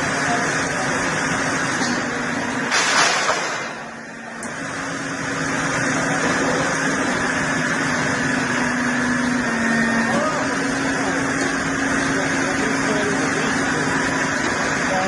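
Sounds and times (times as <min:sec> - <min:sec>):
wood-processing machine humming: 0:00.0 - 0:15.0.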